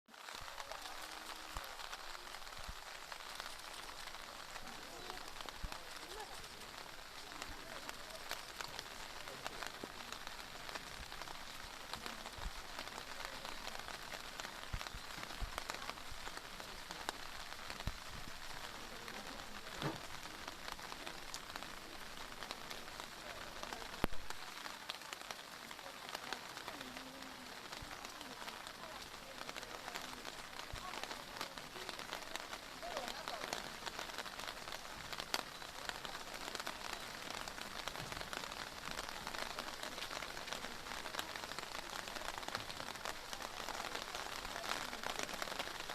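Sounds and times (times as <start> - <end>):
heavy rain pouring: 0.1 - 45.9.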